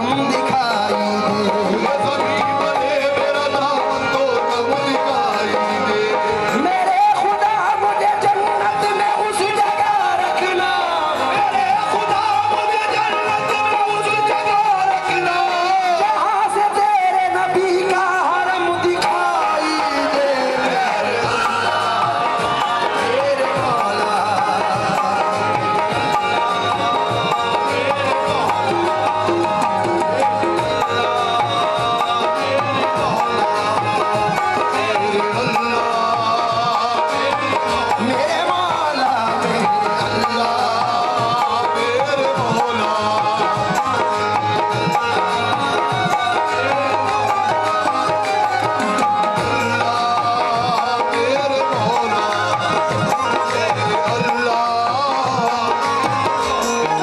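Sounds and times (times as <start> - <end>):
held instrumental tones: 0.0 - 57.0
man singing: 0.0 - 57.0
tabla drumming: 0.0 - 57.0.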